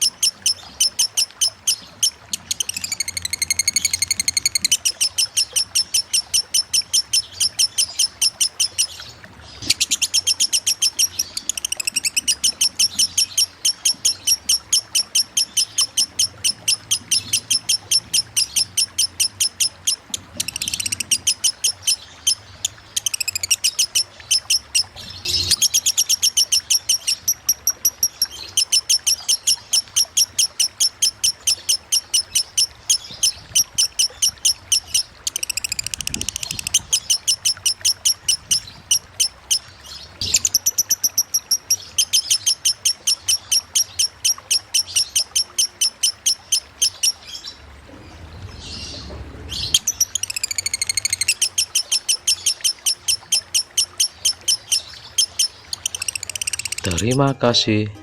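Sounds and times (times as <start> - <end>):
bird chirping rapidly: 0.0 - 47.6, 48.6 - 57.8.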